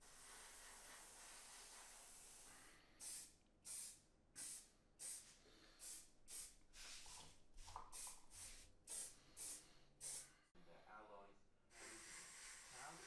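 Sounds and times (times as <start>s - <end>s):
aerosol can short sprays: 0.0s - 10.3s, 11.8s - 13.0s
airbrush hissing: 0.0s - 10.4s, 11.7s - 13.0s.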